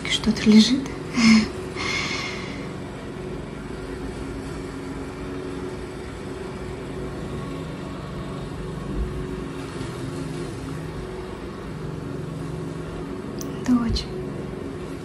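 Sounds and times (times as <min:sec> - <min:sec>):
low mechanical hum with held tones: 0:00.0 - 0:15.0.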